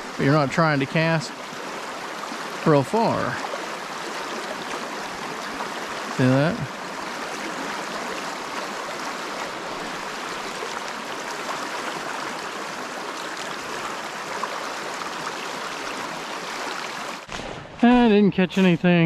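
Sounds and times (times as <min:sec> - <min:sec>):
stream water flowing: 0:00.0 - 0:17.3.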